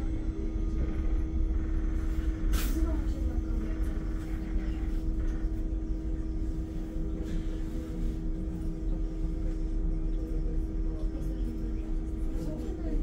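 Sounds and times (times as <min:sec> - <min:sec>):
low rumble: 0:00.0 - 0:10.8
electrical hum: 0:00.0 - 0:13.0.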